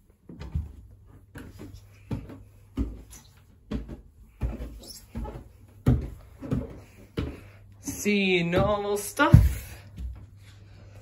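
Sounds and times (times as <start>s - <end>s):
footsteps on wooden stairs: 0.0s - 10.6s.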